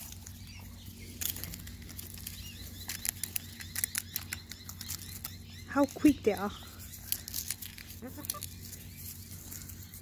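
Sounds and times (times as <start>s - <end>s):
hens' beaks tapping: 1.1s - 9.7s.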